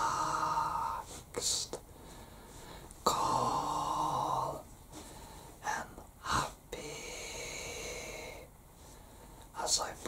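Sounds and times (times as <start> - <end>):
person breathing: 0.0 - 1.3, 1.9 - 10.0.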